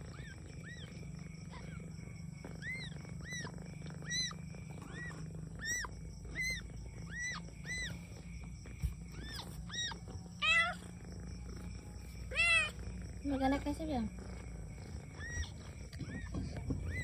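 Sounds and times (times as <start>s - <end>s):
kittens mewing: 0.0s - 17.0s.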